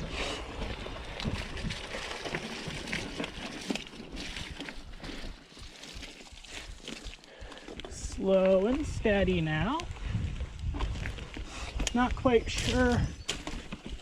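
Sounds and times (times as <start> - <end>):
bike rattling over roots: 0.0 - 14.0
bike tyre rumble on dirt: 0.0 - 14.0.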